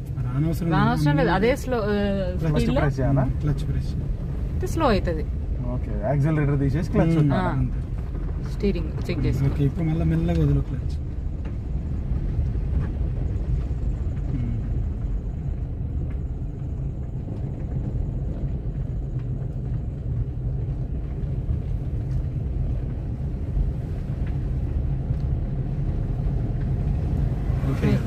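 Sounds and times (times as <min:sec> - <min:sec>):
car engine rumbling: 0:00.0 - 0:28.0
tyres on road: 0:00.0 - 0:28.0.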